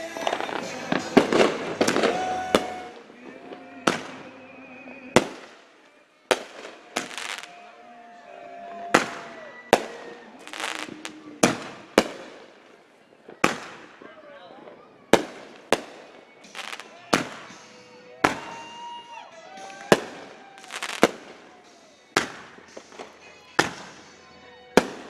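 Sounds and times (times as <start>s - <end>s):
fireworks hissing crackle: 0.0s - 7.7s, 8.9s - 14.2s, 15.0s - 25.0s
fireworks bangs: 0.0s - 25.0s.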